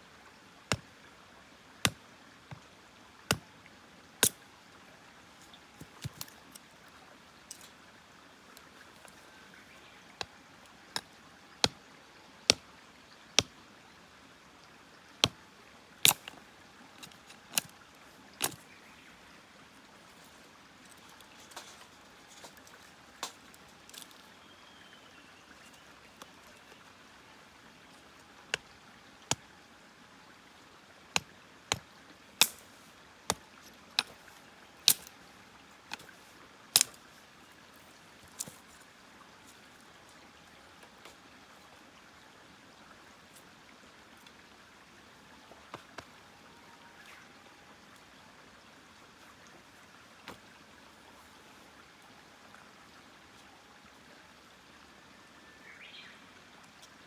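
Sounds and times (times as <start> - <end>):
soft steady hiss: 0.0 - 57.0.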